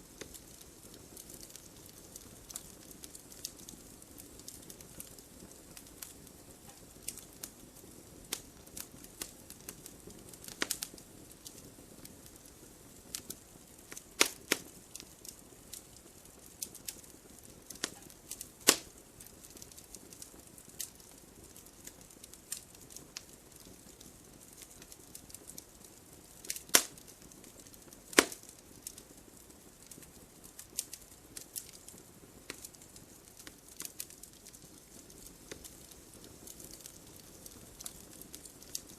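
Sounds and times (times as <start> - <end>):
low steady hiss: 0.0 - 38.9
wood fire crackling: 0.0 - 38.9.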